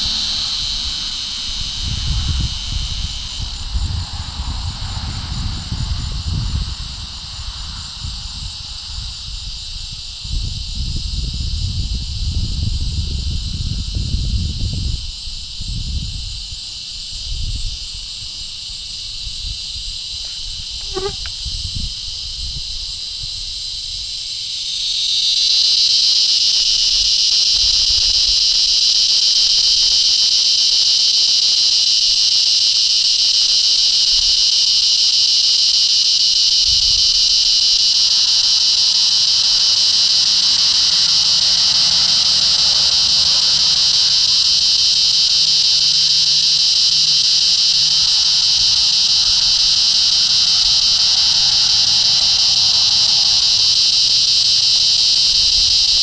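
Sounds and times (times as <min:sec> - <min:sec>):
cicada buzzing: 0:00.0 - 0:56.0.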